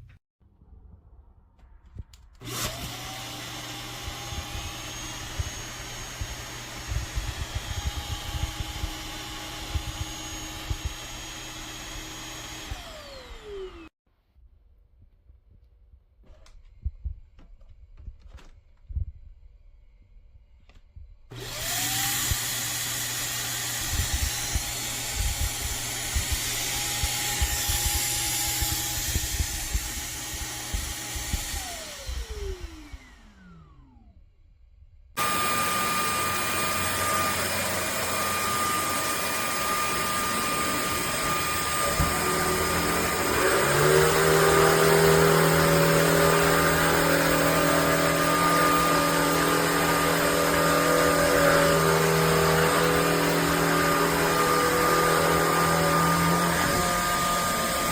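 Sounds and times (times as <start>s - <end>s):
steady motor rising in pitch: 2.4s - 13.9s, 21.4s - 34.2s, 35.2s - 57.9s
stick vacuum motor running: 2.4s - 13.9s, 21.3s - 34.1s, 35.2s - 57.9s.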